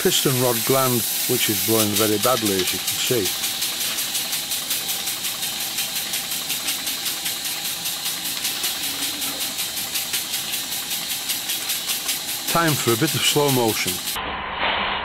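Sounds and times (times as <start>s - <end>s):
steam engine exhaust puffs: 0.0s - 14.2s
steam hissing: 0.0s - 14.2s.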